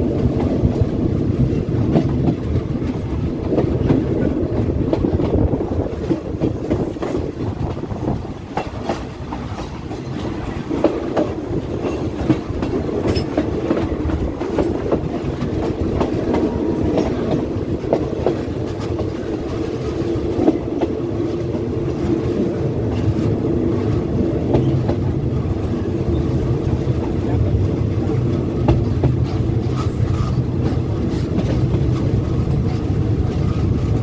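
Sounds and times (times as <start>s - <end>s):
train carriage rumbling: 0.0s - 34.0s
wheels clacking over rail joints: 0.2s - 34.0s.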